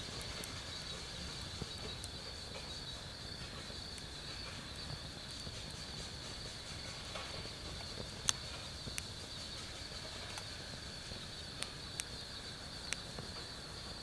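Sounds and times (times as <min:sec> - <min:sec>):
insects trilling: 0:00.0 - 0:14.0
wood fire crackling and popping: 0:00.0 - 0:14.0.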